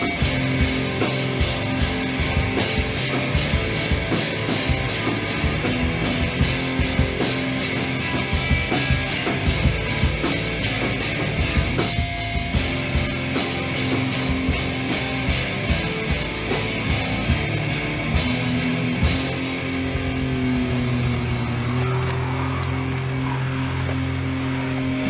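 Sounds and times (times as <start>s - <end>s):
drum kit beat: 0.0s - 21.3s
distorted guitar: 0.0s - 25.0s
loud rock music: 0.0s - 25.0s.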